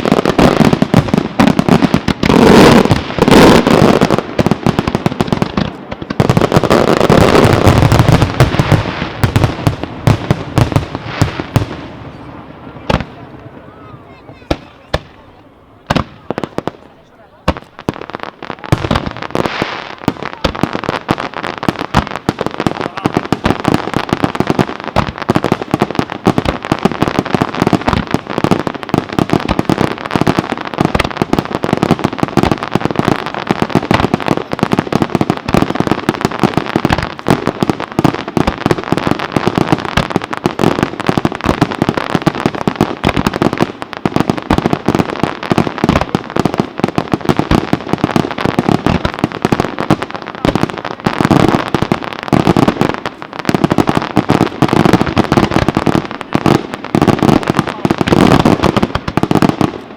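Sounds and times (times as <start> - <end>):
firecracker bangs and crackle: 0.0 - 59.9.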